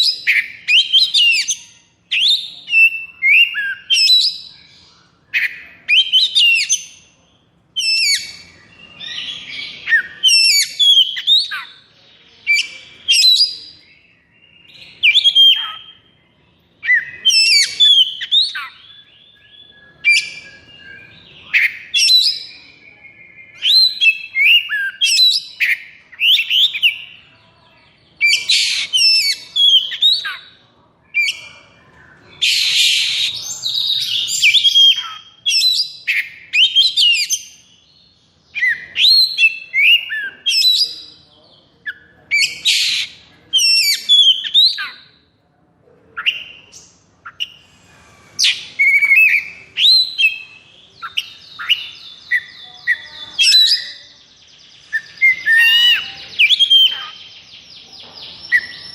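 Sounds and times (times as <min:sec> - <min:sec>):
magpie-robin singing whistles: 0:00.0 - 0:07.0, 0:07.8 - 0:16.1, 0:16.8 - 0:27.1, 0:28.2 - 0:31.6, 0:32.4 - 0:37.9, 0:38.5 - 0:41.2, 0:41.8 - 0:45.2, 0:48.4 - 0:54.1, 0:54.8 - 0:57.4, 0:58.4 - 0:58.9.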